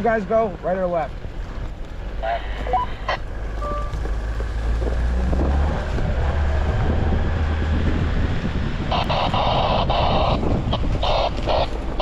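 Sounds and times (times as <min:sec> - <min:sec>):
off-road vehicle engine rumble: 0:00.0 - 0:12.0
tyre and road noise: 0:00.0 - 0:12.0.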